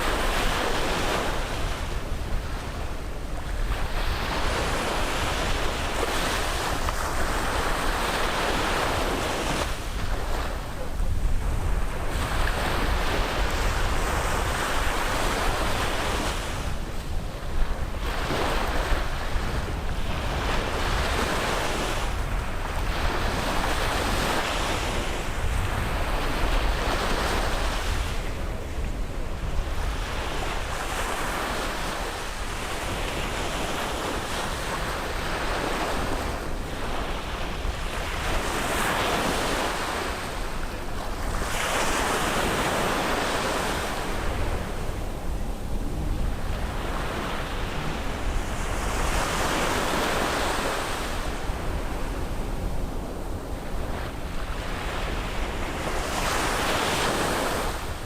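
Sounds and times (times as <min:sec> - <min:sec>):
wind rumbling on microphone: 0:00.0 - 0:58.0
surf breaking on beach: 0:03.5 - 0:58.0.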